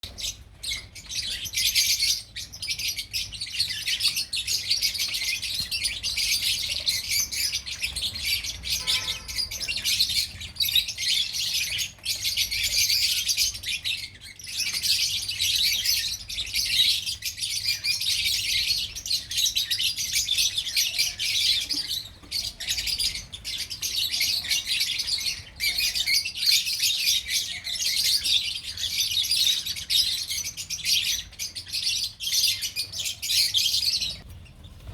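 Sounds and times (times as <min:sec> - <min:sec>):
lovebirds chirping and chattering: 0:00.0 - 0:34.9.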